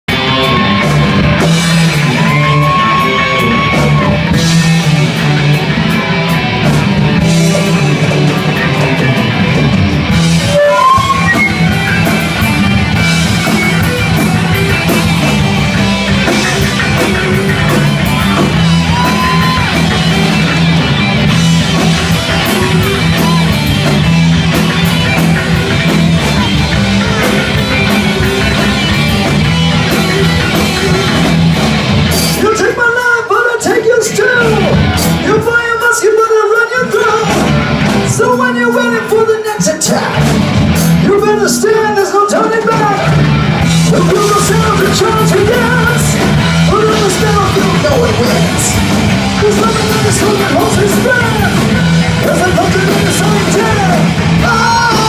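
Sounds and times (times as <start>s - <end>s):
bending lead guitar notes: 0.1s - 55.0s
heavy metal band playing: 0.1s - 55.0s.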